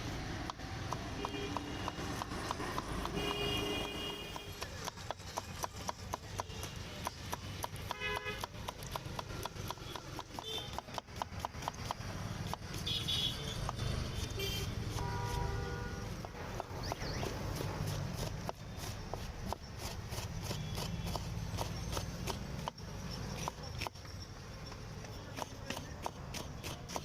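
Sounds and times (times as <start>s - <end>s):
low street hum: 0.0s - 27.0s.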